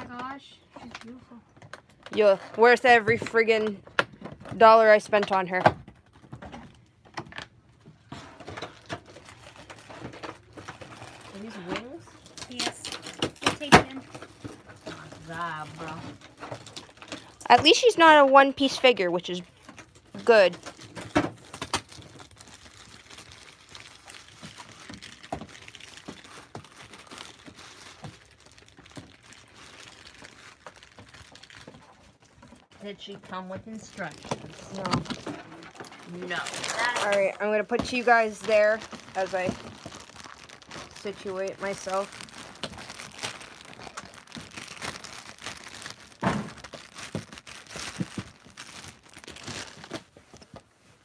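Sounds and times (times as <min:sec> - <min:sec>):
plastic wrapping crinkling: 0:00.0 - 0:51.0.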